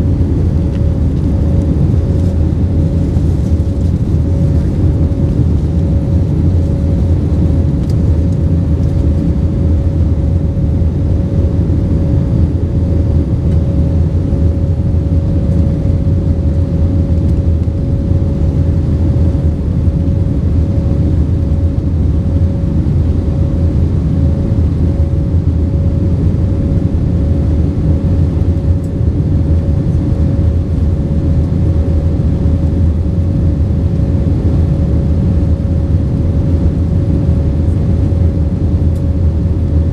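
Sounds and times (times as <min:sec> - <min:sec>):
jet engine and airflow rumble: 0:00.0 - 0:39.9
steady hum tone: 0:00.0 - 0:39.9.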